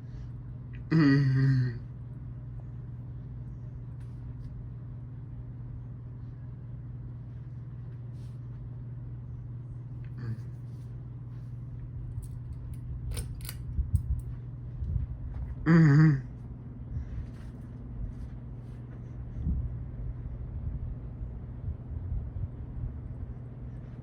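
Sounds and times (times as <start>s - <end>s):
ceiling fan motor hum: 0.0s - 24.0s.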